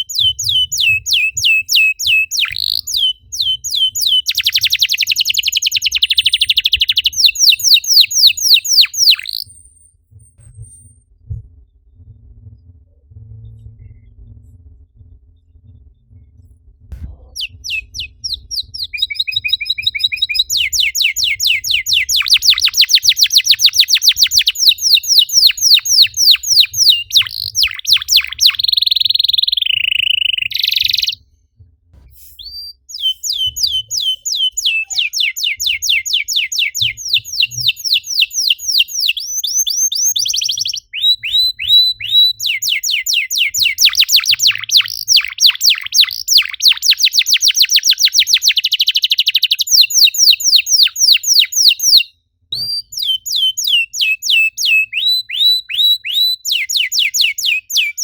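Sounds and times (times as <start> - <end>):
canary trilling: 0.0 - 9.6, 17.1 - 31.2, 32.2 - 58.0
canary held whistle: 0.0 - 10.0, 17.2 - 31.3, 32.1 - 58.0.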